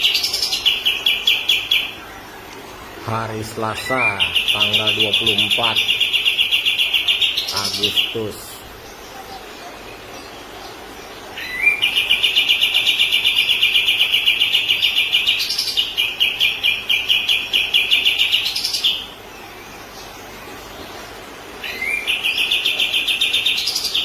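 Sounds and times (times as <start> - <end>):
bird singing rapid trill: 0.0 - 20.6, 21.6 - 24.0.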